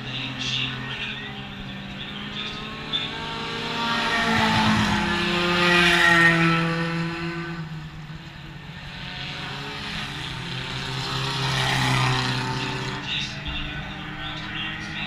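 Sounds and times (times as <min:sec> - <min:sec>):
distant cars running: 0:00.0 - 0:15.0
race car engine passing: 0:00.0 - 0:15.0.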